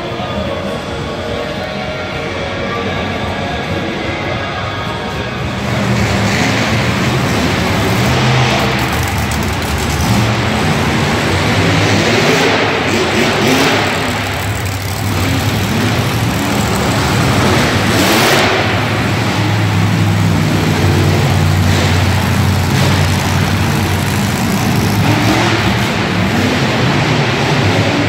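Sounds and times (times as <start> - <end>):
monster truck engines revving: 0.0 - 28.0.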